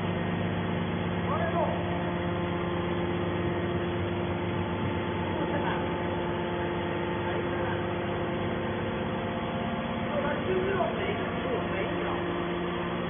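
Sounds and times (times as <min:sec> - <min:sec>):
hydraulic pump motor hum: 0:00.0 - 0:13.0.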